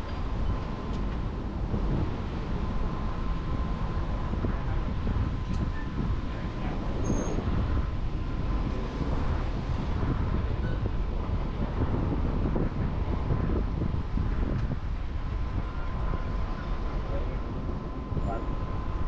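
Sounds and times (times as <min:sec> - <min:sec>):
street traffic: 0:00.0 - 0:19.0
wind rumbling on microphone: 0:00.0 - 0:19.0.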